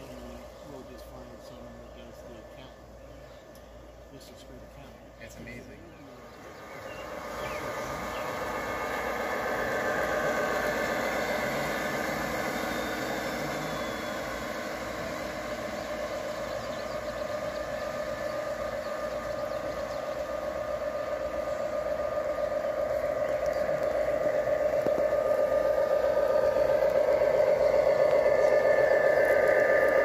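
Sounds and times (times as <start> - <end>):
model trains rumbling on track: 0.0 - 3.1, 4.0 - 30.0.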